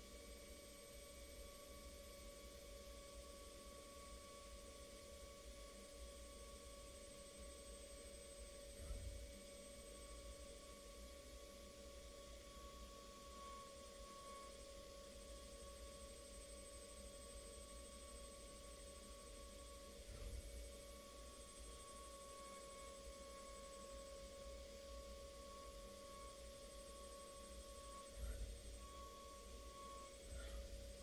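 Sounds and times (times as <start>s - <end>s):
air spindle high whine: 0.0s - 31.0s.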